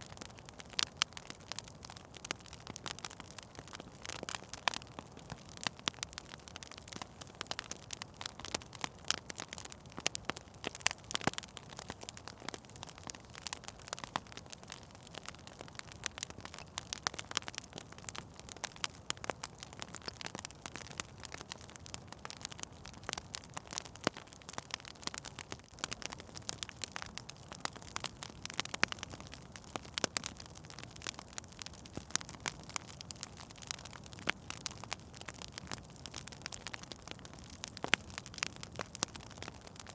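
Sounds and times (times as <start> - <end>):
low steady hiss of fire: 0.0 - 39.9
wood fire crackling and popping: 0.0 - 39.9.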